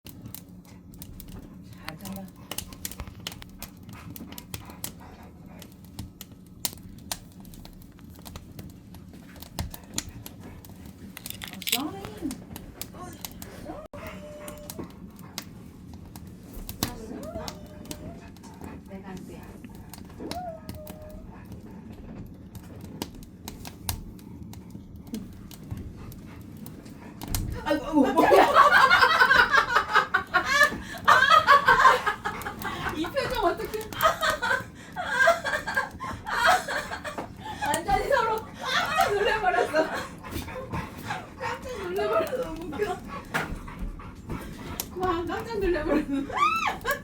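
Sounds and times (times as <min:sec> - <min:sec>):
firewood crackling and popping: 0:00.1 - 0:47.0.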